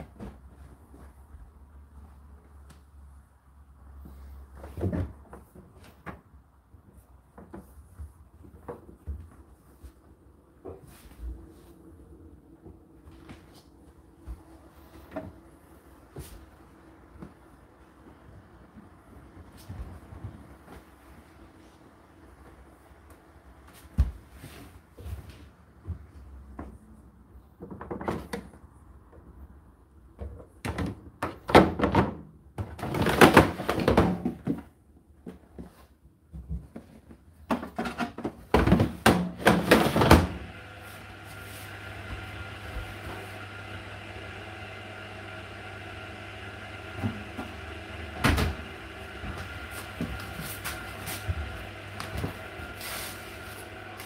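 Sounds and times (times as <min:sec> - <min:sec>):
steady mechanical hum: 0:00.0 - 0:31.6, 0:32.5 - 0:54.0.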